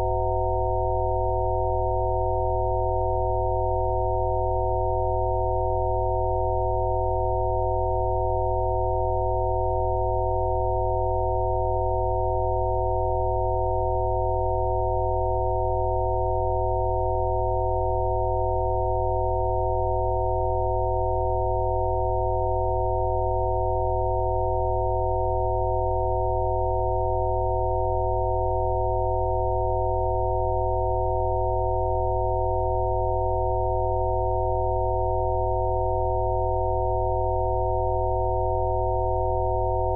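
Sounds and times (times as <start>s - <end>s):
electronic sine tone chord: 0.0s - 39.9s.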